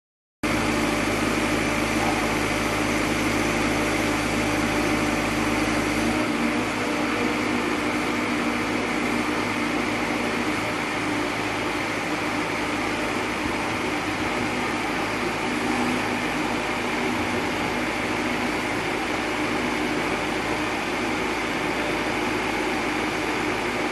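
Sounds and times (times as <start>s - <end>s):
auger drilling rig droning: 0.4s - 23.9s.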